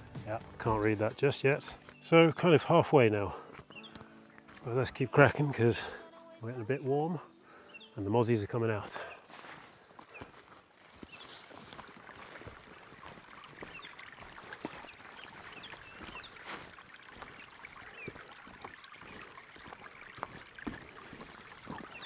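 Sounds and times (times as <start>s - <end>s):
footsteps on a path: 0.0s - 6.0s, 8.8s - 22.0s
stream trickling: 0.0s - 22.0s.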